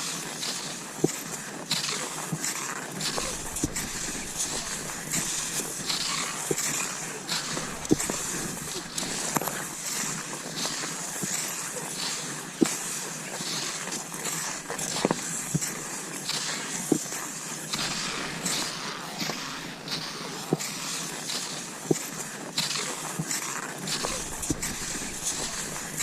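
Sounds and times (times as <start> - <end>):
skis swishing over snow: 0.0 - 26.0
sharp ski click: 1.1 - 11.6, 13.5 - 26.0.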